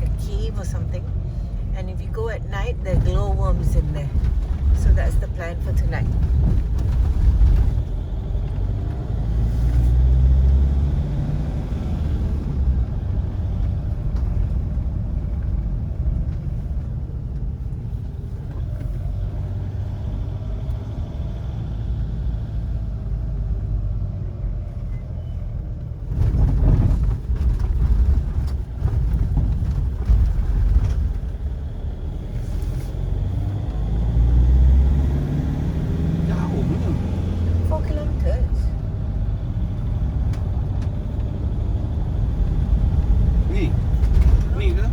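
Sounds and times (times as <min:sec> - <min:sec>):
car engine from inside cabin: 0:00.0 - 0:44.9
road noise: 0:00.0 - 0:44.9.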